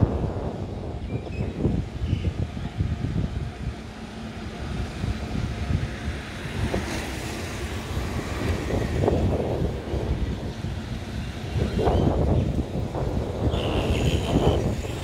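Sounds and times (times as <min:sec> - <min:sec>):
freight train rolling past: 0:00.0 - 0:15.0
wind gusting on microphone: 0:00.0 - 0:15.0.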